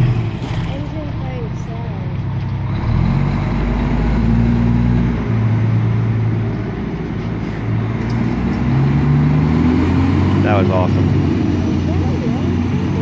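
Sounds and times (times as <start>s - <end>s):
fire engine pulling away: 0.0s - 13.0s.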